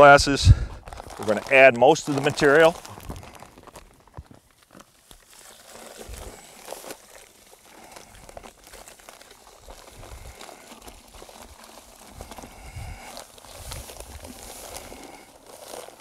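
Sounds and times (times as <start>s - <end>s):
paper bag crinkling and rustling: 0.0s - 16.0s.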